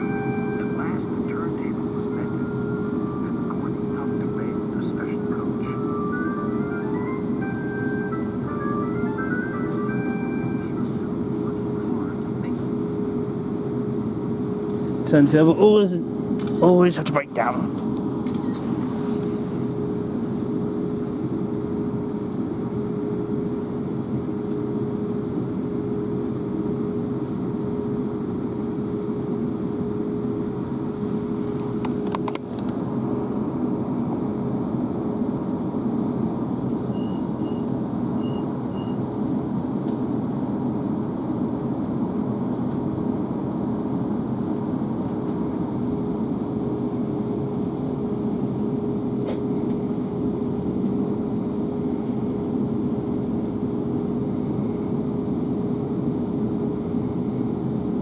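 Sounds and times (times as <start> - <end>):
constant hum: 0.0 - 58.0.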